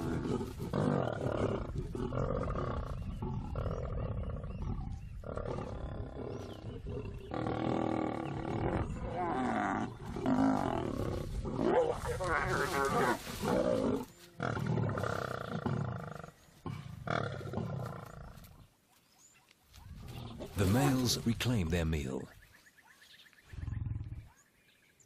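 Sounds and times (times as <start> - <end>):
lions growling and snarling: 0.0 - 18.7, 19.8 - 21.2, 23.5 - 24.6.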